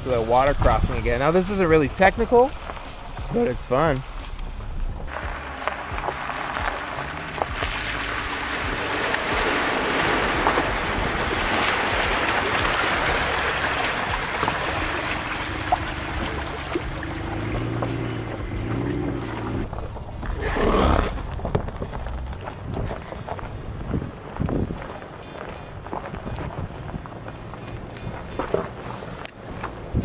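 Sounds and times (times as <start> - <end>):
tyres rolling over rocky gravel: 0.0 - 30.0
water splashing and churning: 0.0 - 30.0
car engine: 1.7 - 24.4, 25.0 - 30.0.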